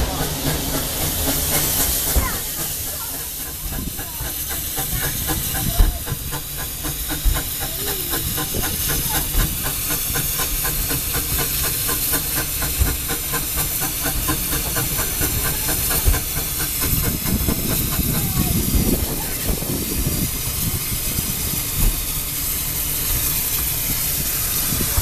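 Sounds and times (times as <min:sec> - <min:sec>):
steam locomotive hissing and chuffing: 0:00.0 - 0:25.0.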